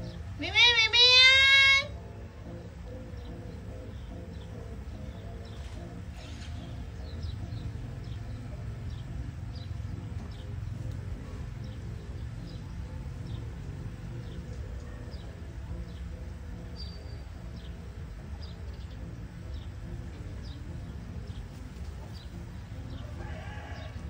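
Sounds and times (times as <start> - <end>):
steady low hum: 1.9 - 23.2.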